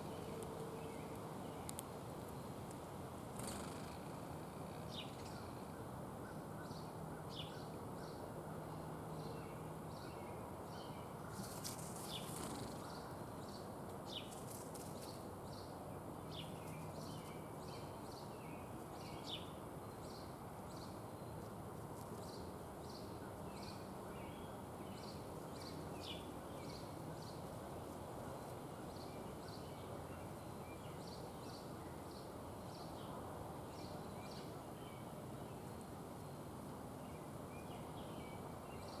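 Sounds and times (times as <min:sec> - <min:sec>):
small songbirds chirping: 0:00.0 - 0:02.5, 0:03.4 - 0:39.0
outdoor background rush: 0:00.0 - 0:39.0.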